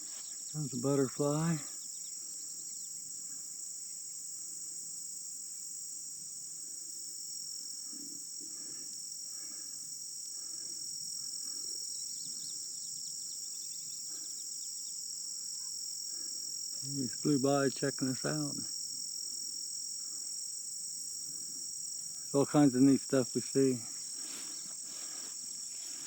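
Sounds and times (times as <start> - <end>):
crickets and insects droning: 0.0 - 26.0.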